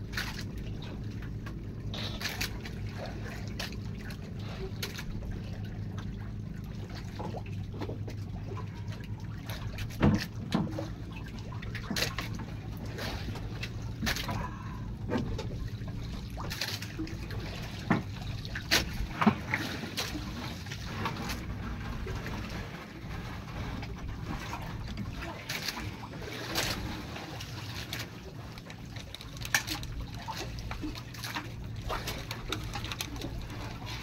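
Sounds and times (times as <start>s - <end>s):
steady low hum: 0.0s - 34.0s
water lapping against boat hull: 0.0s - 34.0s
water splashes: 0.0s - 34.0s.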